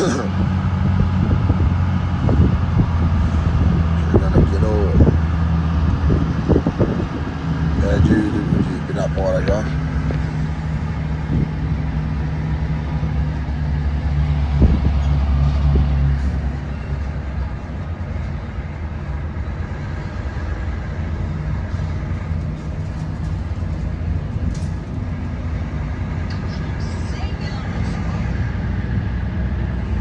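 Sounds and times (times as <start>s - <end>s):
road noise: 0.0s - 30.0s
truck diesel engine drone: 0.0s - 30.0s.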